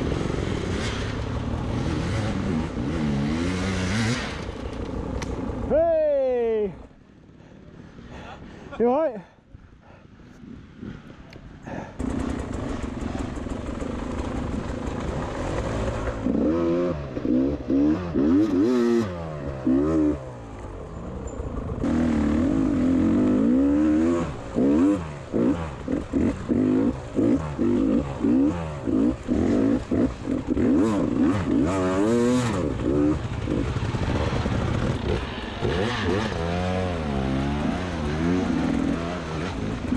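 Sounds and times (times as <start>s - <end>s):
two-stroke dirt bike revving: 0.0s - 5.8s, 10.4s - 39.9s.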